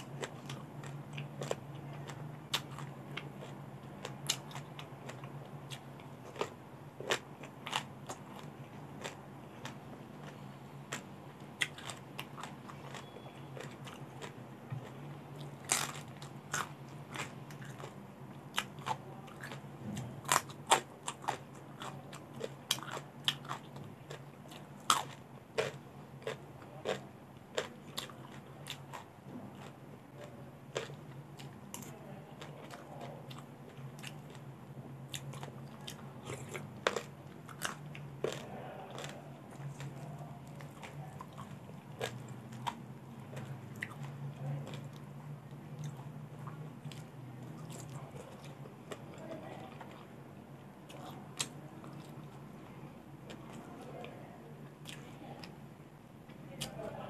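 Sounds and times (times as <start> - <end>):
crunching raw vegetables: 0.0 - 34.5, 35.1 - 50.1
low steady hum: 0.0 - 57.0.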